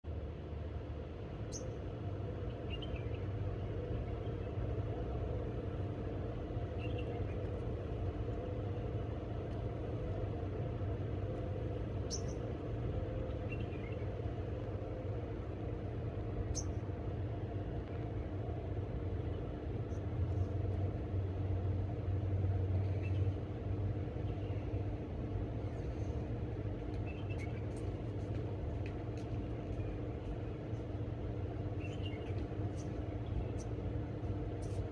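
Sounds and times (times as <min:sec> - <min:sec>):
low rumbling hum: 0:00.0 - 0:34.9.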